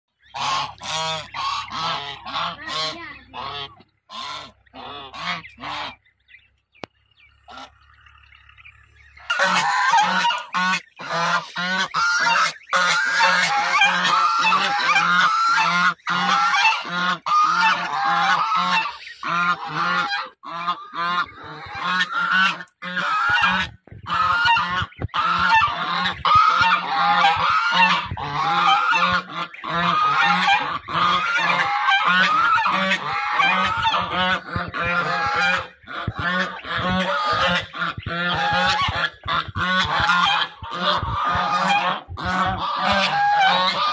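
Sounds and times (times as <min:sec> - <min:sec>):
geese honking: 0:00.1 - 0:43.9.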